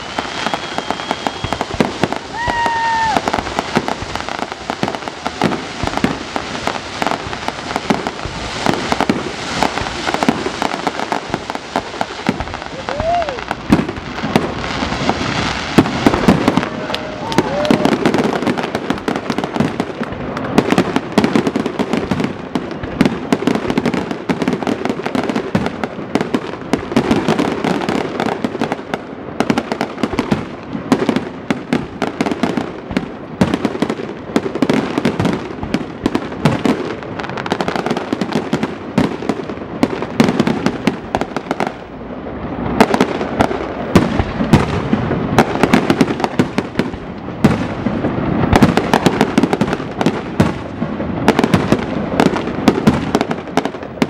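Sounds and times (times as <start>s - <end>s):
fireworks bursts and bangs: 0.0s - 54.0s.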